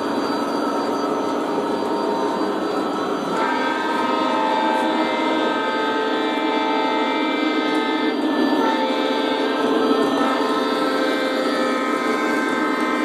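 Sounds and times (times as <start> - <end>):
electronic air horn: 0.0 - 13.0
model locomotive diesel rumble: 0.0 - 13.0.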